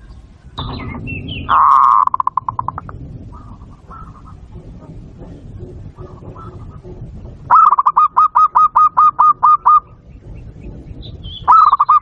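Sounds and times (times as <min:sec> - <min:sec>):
bird chirping: 0:00.0 - 0:12.0
dove cooing: 0:00.6 - 0:12.0.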